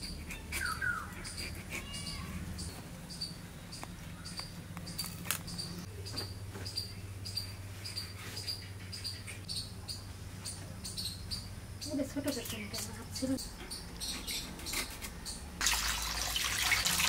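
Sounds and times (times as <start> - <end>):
small bird chirping: 0.0 - 15.5.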